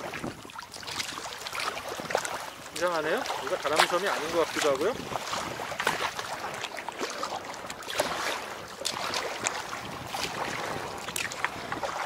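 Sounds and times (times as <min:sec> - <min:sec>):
paddle splashes and drips: 0:00.0 - 0:12.0
water slapping hull: 0:00.0 - 0:12.0.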